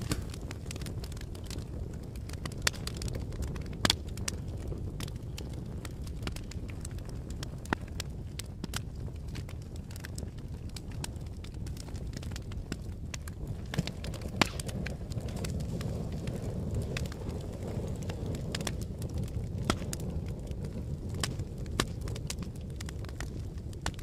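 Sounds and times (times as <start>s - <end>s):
fire crackling and popping: 0.0s - 24.0s
low rumble of burning: 0.0s - 24.0s.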